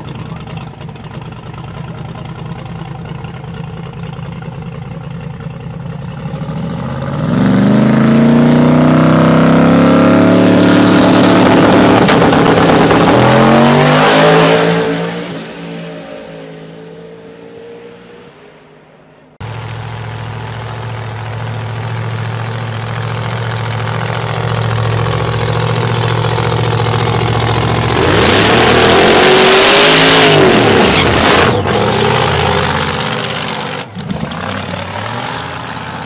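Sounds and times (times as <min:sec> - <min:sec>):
drag car engine revving: 0:00.0 - 0:18.2, 0:19.4 - 0:36.0.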